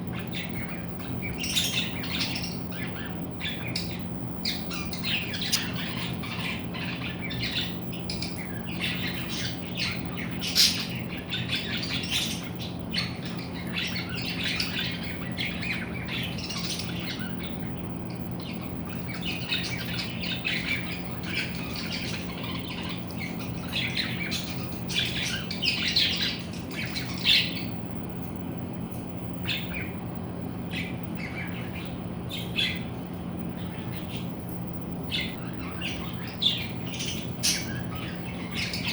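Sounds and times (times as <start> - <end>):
birds squawking and chirping: 0.0 - 38.9
steady low hum: 0.0 - 38.9.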